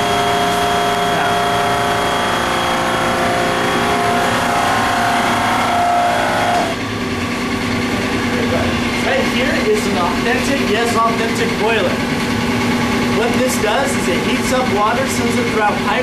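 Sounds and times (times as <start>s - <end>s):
heating machinery humming and whining: 0.0s - 16.0s.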